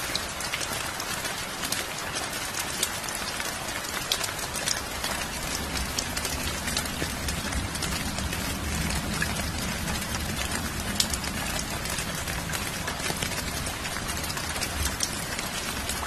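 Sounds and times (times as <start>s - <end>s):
raindrops ticking: 0.0s - 16.0s
steady rain patter: 0.0s - 16.0s.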